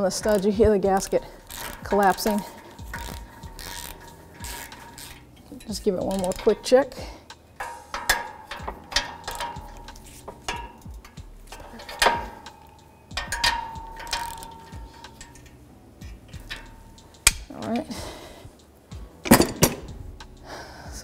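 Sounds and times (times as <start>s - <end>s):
hand ratchet clicking: 0.0s - 20.8s
metal clinks with ringing: 1.0s - 17.8s.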